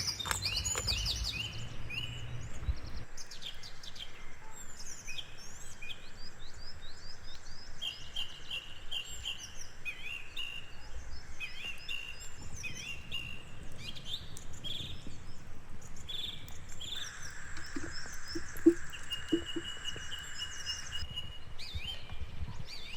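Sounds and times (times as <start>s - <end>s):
songbirds chirping and singing: 0.0s - 22.9s.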